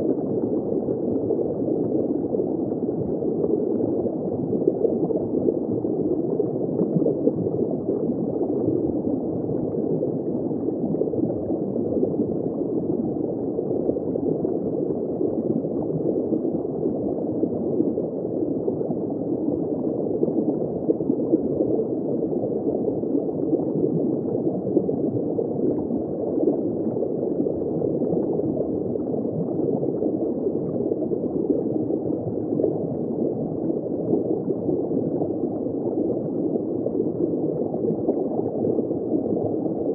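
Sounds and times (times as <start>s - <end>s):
muffled underwater crackling hiss: 0.0s - 39.9s.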